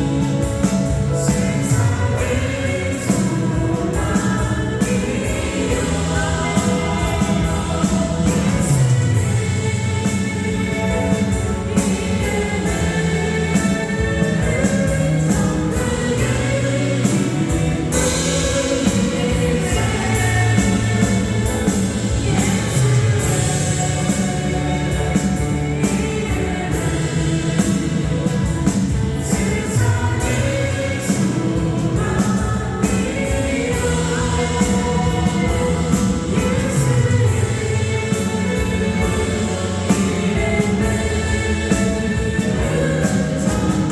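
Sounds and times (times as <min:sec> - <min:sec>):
group singing worship song: 0:00.0 - 0:43.9
instrumental accompaniment with beat: 0:00.0 - 0:43.9.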